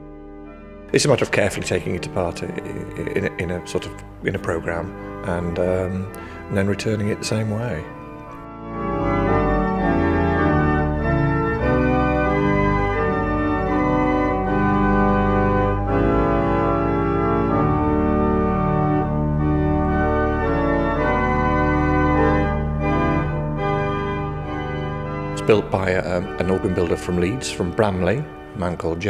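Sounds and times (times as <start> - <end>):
pipe organ chords: 0.0 - 29.0.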